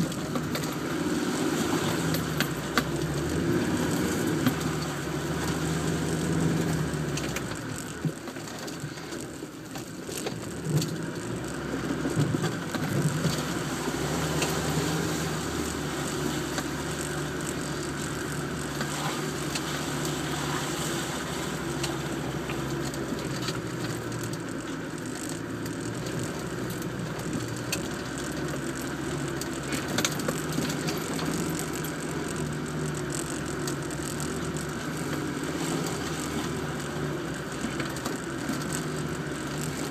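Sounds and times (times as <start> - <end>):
body rattling clicks and knocks: 0.0 - 39.9
engine running at low revs: 0.0 - 39.9.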